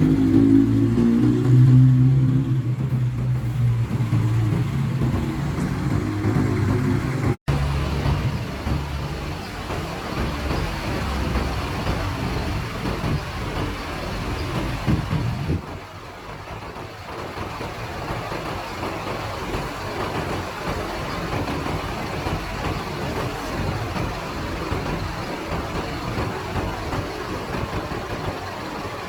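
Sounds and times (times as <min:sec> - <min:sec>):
bus engine idling: 0:00.0 - 0:29.0.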